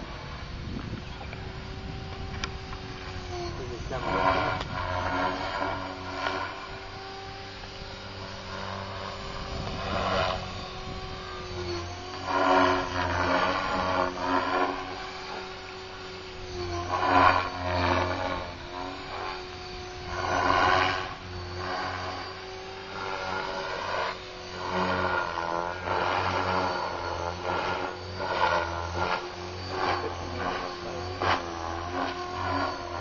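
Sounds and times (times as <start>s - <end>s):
rc helicopter motor hum: 0.0s - 33.0s
rotor blade whooshes: 2.9s - 33.0s.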